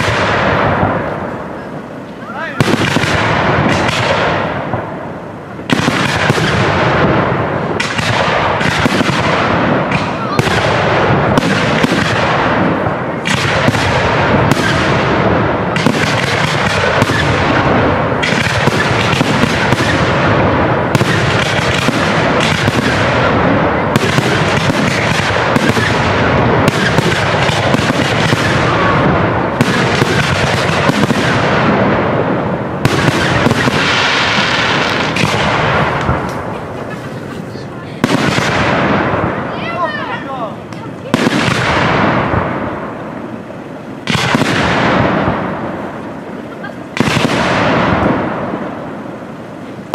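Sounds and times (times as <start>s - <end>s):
firework bangs: 0.0s - 49.9s
firework crackling: 0.0s - 49.9s.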